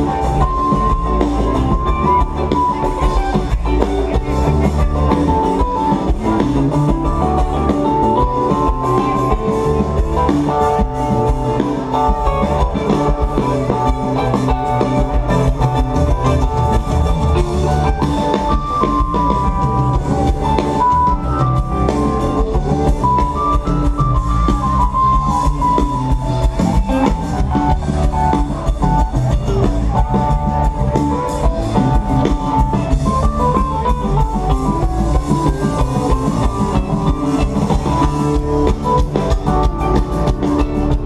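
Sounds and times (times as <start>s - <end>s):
bass line: 0.0s - 41.0s
drum kit beat: 0.0s - 41.0s
melodic lead line: 0.0s - 41.0s.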